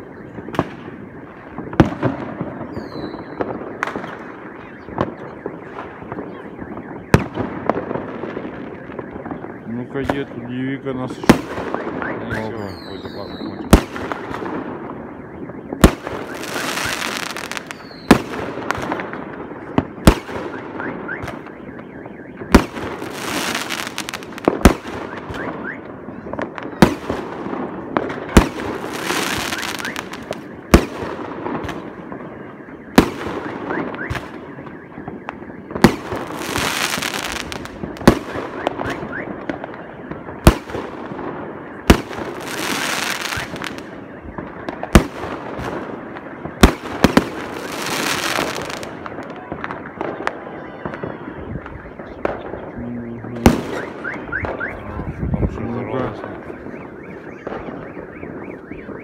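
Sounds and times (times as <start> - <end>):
firework bangs: 0.0 - 59.0.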